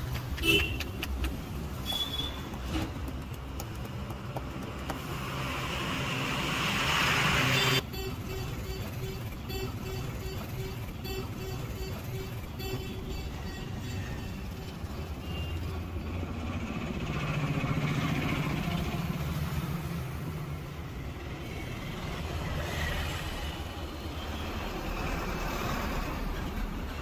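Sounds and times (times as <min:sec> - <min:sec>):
traffic engine rumble: 0:00.0 - 0:27.0.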